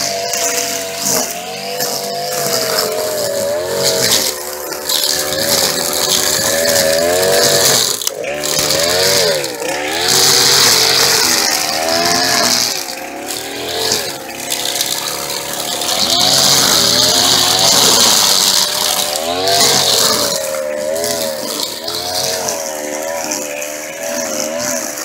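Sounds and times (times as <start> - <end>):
string trimmer engine revving: 0.0 - 25.0.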